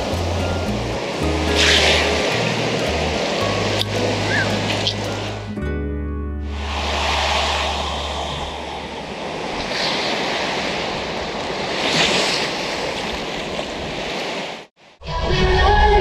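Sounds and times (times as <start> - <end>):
waves breaking: 0.0 - 5.6, 6.4 - 15.0
ocean surf on beach: 0.0 - 5.7, 6.4 - 15.0.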